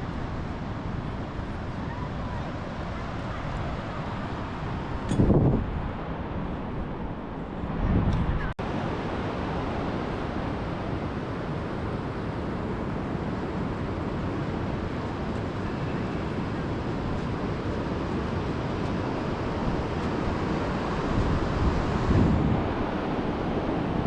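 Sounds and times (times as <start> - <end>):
ocean surf: 0.0 - 24.0
wind on microphone: 0.0 - 24.0.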